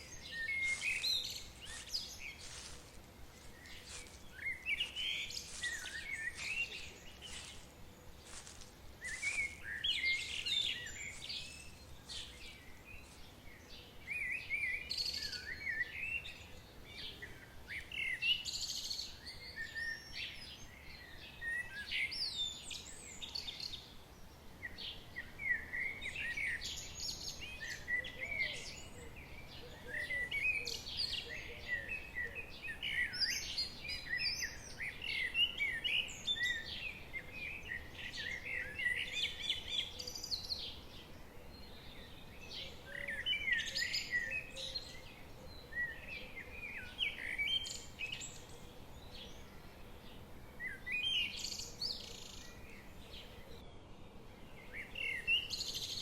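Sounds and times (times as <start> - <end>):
faint steady hiss: 0.0 - 56.0
songbirds singing and chirping: 0.0 - 56.0.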